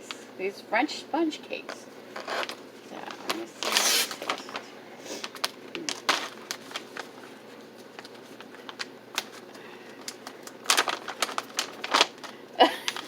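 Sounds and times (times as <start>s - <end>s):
plastic packaging crinkling: 1.6s - 13.0s.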